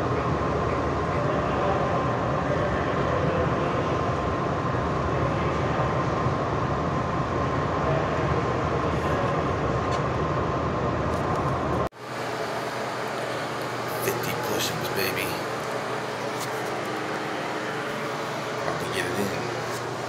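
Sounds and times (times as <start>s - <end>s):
room noise: 0.0s - 20.0s
swimming pool hall rushing noise: 0.0s - 20.0s.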